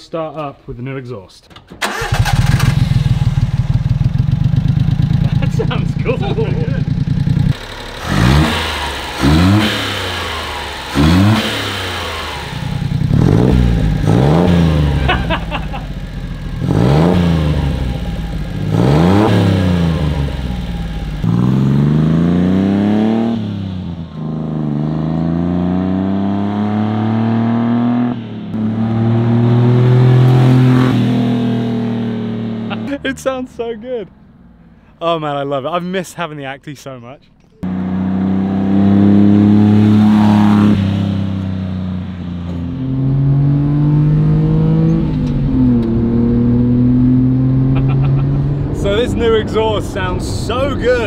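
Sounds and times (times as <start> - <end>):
car accelerating away: 1.8 - 33.4, 37.6 - 51.0
car engine revving: 1.8 - 35.2, 37.6 - 51.0.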